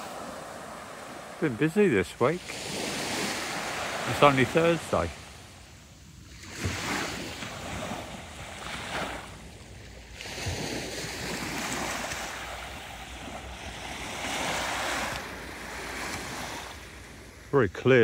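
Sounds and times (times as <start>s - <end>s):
small waves breaking on shore: 0.0s - 18.0s.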